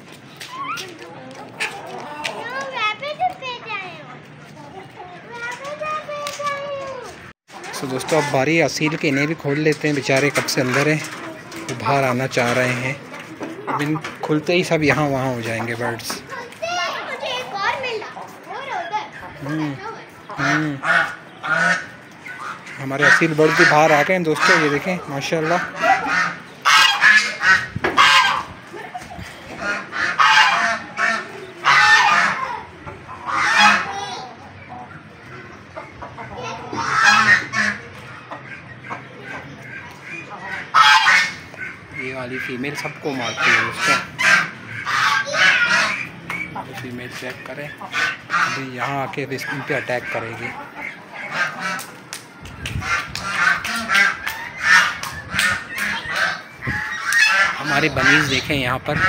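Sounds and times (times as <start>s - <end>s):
geese honking: 7.7s - 18.4s, 19.1s - 28.6s, 29.4s - 59.0s.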